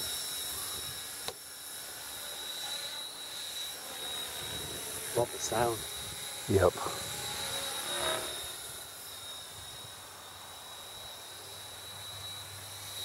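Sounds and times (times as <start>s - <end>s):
model helicopter whining: 0.0s - 13.0s.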